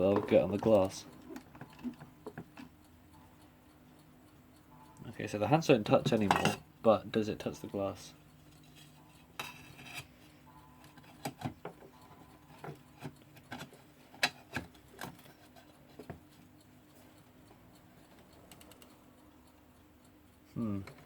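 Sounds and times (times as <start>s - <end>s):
clock clicks and taps: 0.0s - 21.0s.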